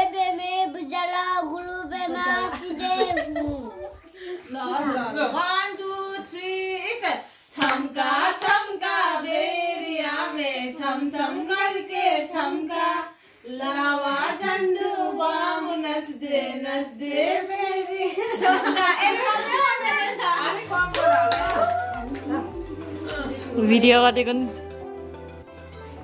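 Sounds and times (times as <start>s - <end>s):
girl singing unaccompanied: 0.0s - 23.6s.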